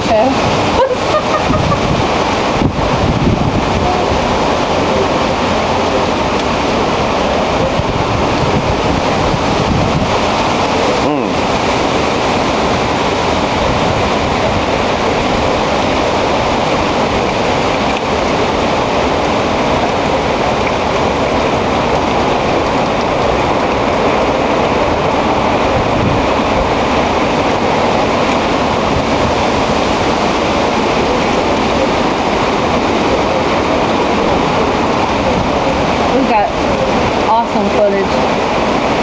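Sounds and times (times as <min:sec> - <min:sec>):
strong wind through trees: 0:00.0 - 0:39.0
wind buffeting microphone: 0:00.0 - 0:39.0.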